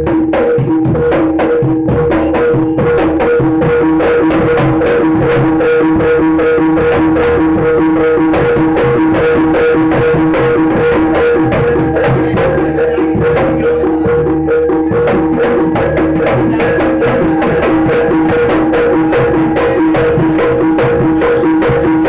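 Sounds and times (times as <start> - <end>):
drums and percussion: 0.0 - 22.0
steady held tones: 0.0 - 22.0.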